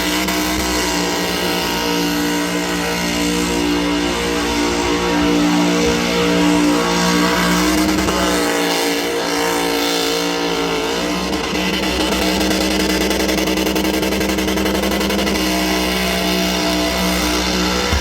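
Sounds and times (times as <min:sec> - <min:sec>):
car engine revving high: 0:00.0 - 0:18.0
music playing: 0:00.0 - 0:18.0.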